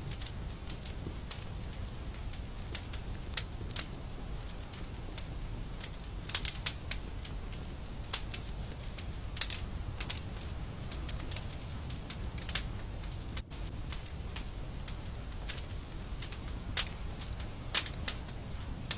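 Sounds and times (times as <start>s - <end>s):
fireplace fire crackling: 0.0s - 18.9s.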